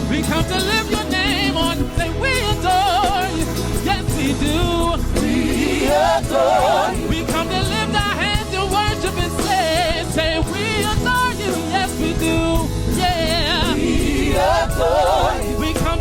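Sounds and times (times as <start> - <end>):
band accompaniment: 0.0 - 16.0
gospel choir singing: 0.0 - 16.0.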